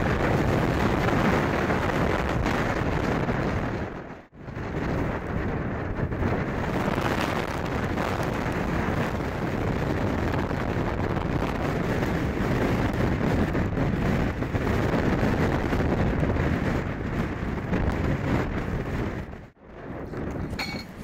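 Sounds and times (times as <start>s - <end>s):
blizzard wind buffeting microphone: 0.0s - 21.0s.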